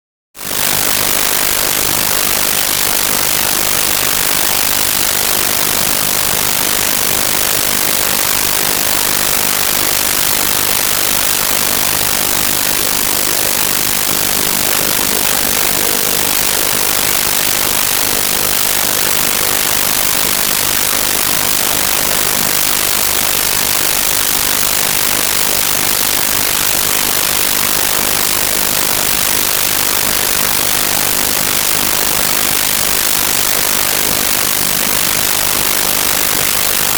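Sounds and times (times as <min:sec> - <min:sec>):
loud static hiss: 0:00.4 - 0:36.9.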